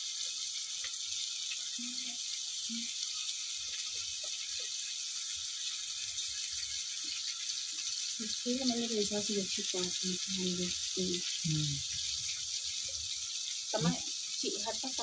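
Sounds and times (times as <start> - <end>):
onions and tomatoes sizzling: 0.0 - 15.0
fire crackles and ticks: 0.1 - 15.0.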